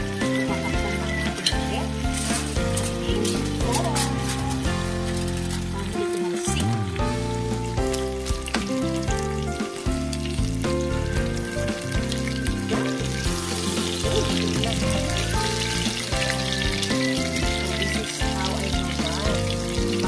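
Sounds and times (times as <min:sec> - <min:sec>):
background music: 0:00.0 - 0:20.0
steaks sizzling in a skillet: 0:00.0 - 0:20.0.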